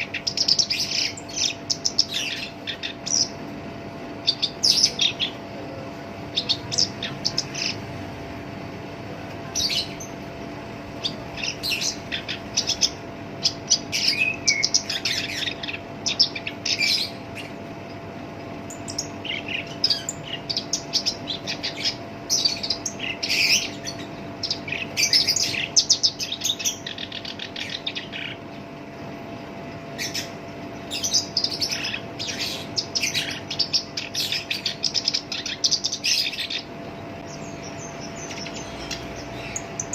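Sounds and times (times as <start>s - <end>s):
reed warbler harsh song: 0.0s - 8.0s, 9.5s - 28.8s, 29.8s - 39.9s
faint steady hum: 0.0s - 39.9s.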